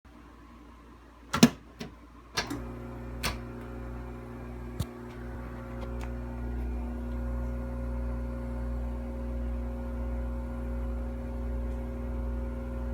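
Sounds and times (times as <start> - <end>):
dishwasher humming: 1.3 - 12.9.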